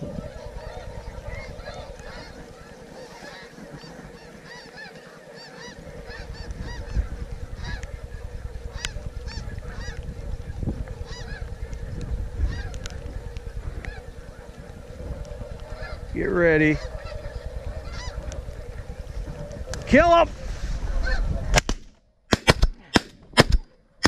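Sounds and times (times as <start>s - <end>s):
wind rumble on microphone: 0.0s - 4.8s, 5.6s - 21.8s
snow geese honking: 0.0s - 21.5s.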